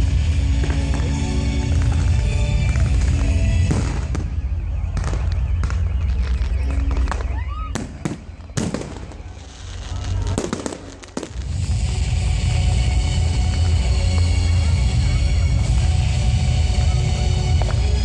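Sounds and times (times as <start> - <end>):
festival music: 0.0 - 18.0
fireworks bangs and crackles: 0.0 - 18.0.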